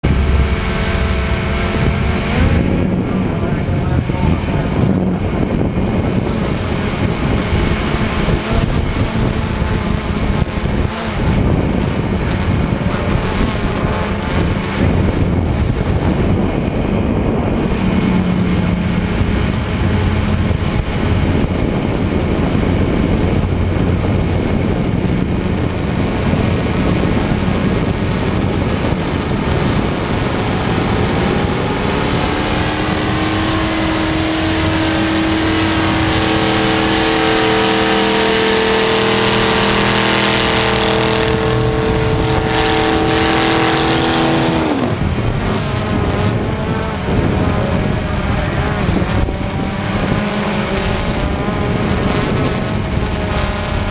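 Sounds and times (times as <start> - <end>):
tractor engine running under load: 0.0 - 53.9
wind noise on microphone: 0.0 - 53.9.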